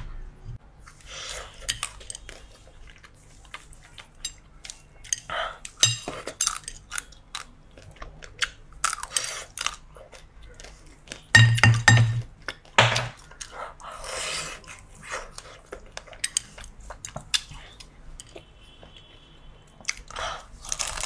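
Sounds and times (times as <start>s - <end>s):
chewing with clicks and crackles: 0.8s - 11.4s, 12.2s - 21.0s.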